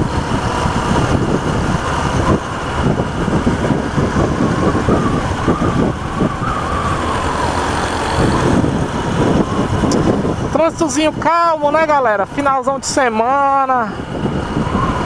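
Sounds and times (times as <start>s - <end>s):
motorcycle engine rumble: 0.0s - 15.0s
road noise: 0.0s - 15.0s.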